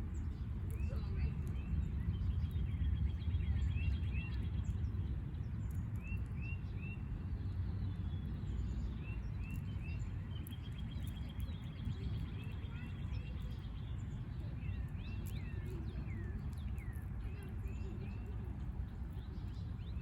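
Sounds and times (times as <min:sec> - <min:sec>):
birds chirping: 0:00.2 - 0:20.0.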